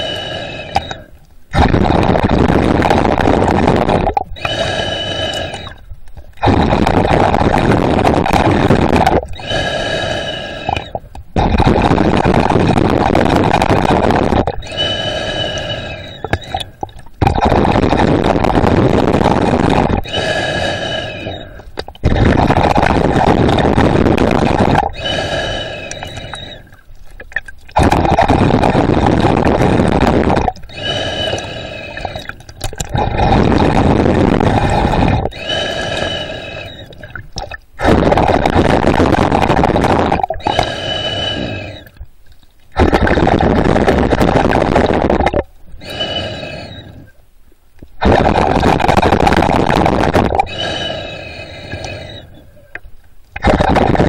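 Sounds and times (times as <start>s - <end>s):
underwater breathing: 0.0s - 42.1s, 42.7s - 47.2s, 48.0s - 54.0s.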